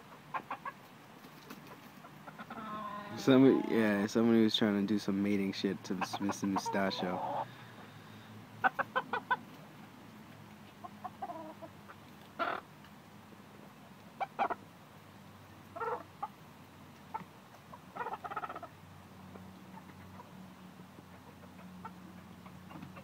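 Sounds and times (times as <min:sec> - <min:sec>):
hens clucking: 0:00.0 - 0:07.9, 0:08.6 - 0:12.7, 0:14.2 - 0:14.7, 0:15.6 - 0:23.0.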